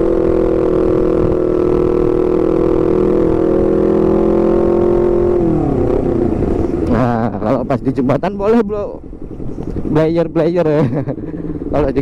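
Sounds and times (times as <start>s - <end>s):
motorcycle engine at steady revs: 0.0s - 12.0s.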